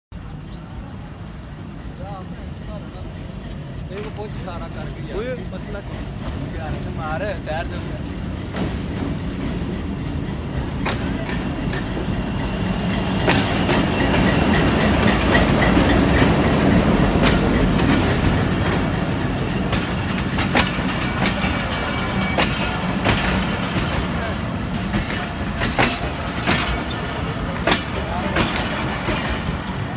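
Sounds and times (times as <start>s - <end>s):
diesel locomotive engine drone: 0.2s - 29.9s
wheels clacking over rail joints: 3.2s - 29.9s.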